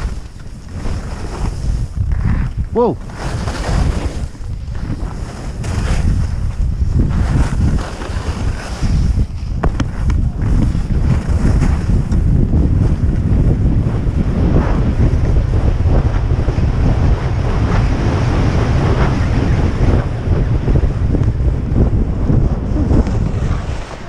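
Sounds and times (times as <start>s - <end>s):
skis scraping over snow: 0.0s - 24.0s
wind buffeting microphone: 0.0s - 24.0s.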